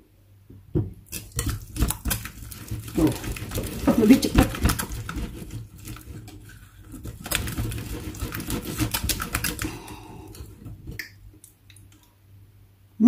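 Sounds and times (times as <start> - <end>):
utensil stirring against a bowl: 1.0 - 12.1.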